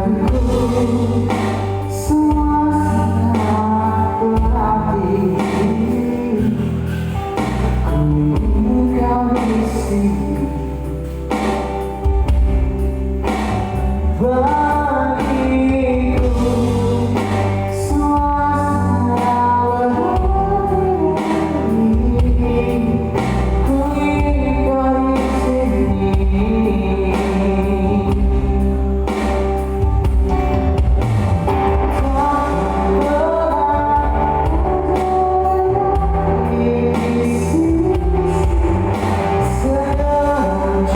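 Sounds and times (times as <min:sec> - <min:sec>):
bass: 0:00.0 - 0:40.9
guitar: 0:00.0 - 0:40.9
person singing: 0:00.0 - 0:40.9.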